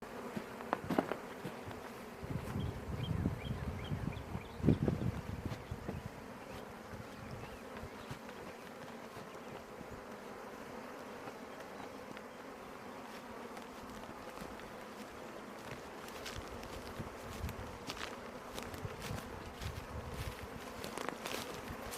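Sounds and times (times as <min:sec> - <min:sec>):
honey bees buzzing: 0:00.0 - 0:21.9.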